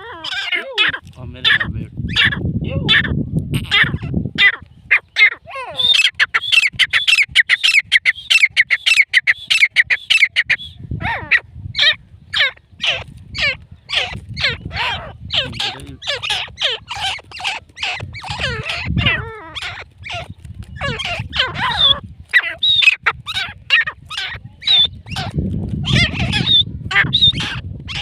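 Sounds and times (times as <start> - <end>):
bird calling sharply: 3.0 - 28.0.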